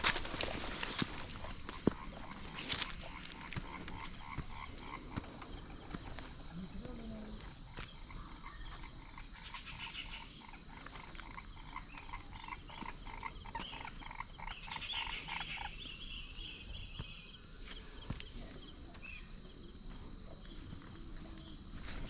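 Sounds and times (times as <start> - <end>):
frogs croaking: 0.0 - 22.0.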